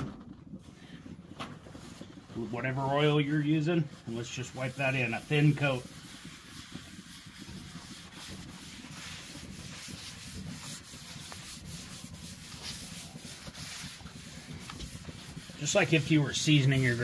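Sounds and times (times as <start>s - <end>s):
paper towel wiping griddle: 0.6s - 17.0s.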